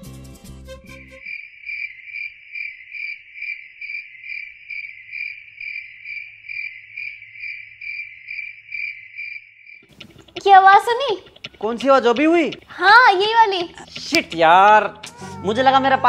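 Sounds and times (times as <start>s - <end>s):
cricket chirping: 1.0s - 14.4s.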